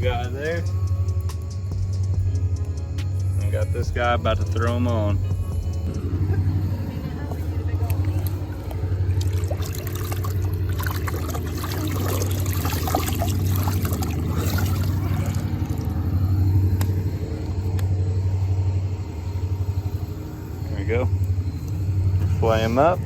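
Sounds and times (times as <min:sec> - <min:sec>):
pulsing low rumble: 0:00.0 - 0:23.0.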